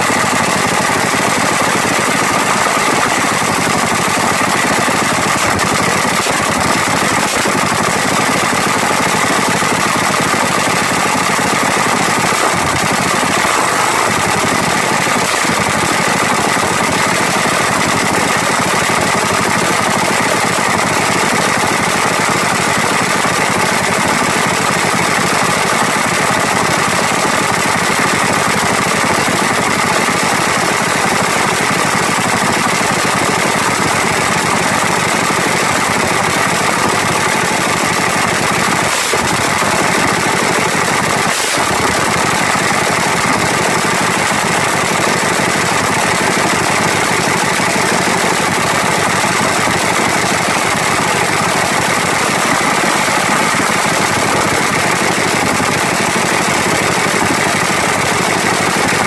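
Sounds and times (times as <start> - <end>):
drag bike engine running: 0.0 - 59.0.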